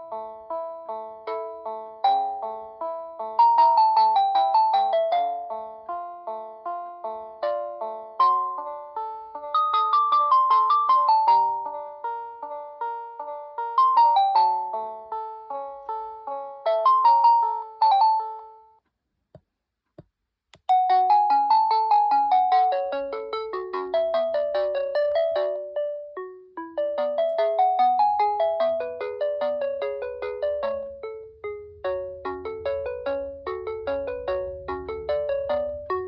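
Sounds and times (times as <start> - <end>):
polyphonic ringtone melody: 0.0 - 18.8, 20.7 - 36.0.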